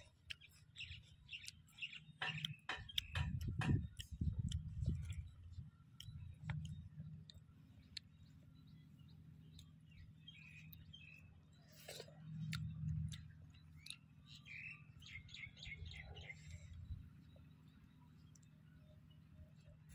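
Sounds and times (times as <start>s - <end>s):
faint bird chirps: 0.0s - 19.9s
steady low hum: 0.0s - 19.9s.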